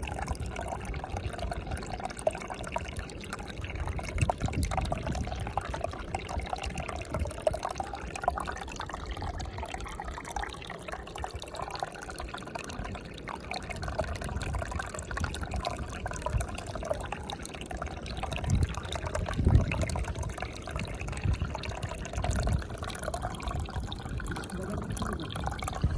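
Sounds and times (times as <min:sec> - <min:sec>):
water running and splashing: 0:00.0 - 0:25.9.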